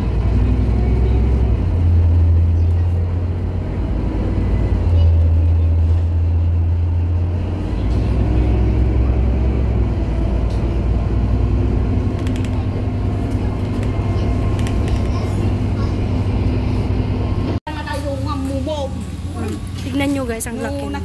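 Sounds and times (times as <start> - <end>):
bus rumbling: 0.0 - 21.0.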